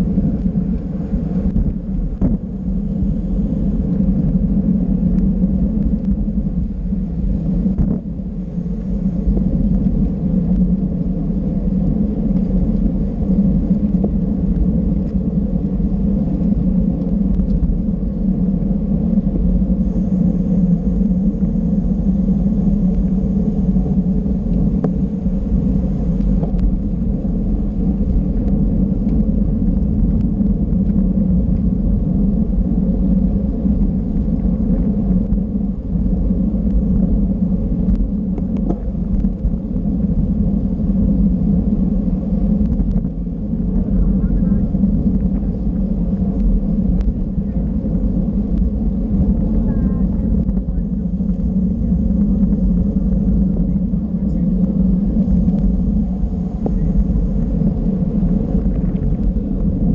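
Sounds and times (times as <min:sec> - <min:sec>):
bicycle tyre and road noise: 0:00.0 - 0:59.9
wind buffeting microphone: 0:00.0 - 0:59.9.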